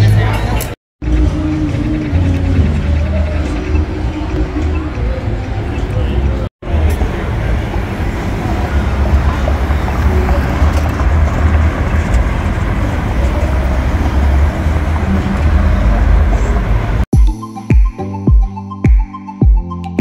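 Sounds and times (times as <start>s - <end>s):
road traffic passing: 0.0s - 17.1s.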